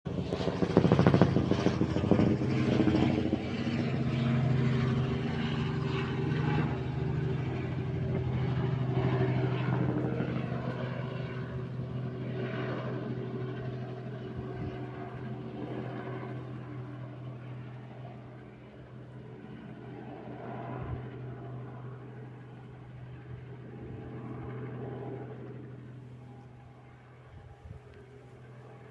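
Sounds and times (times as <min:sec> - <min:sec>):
helicopter drone: 0:00.1 - 0:28.9.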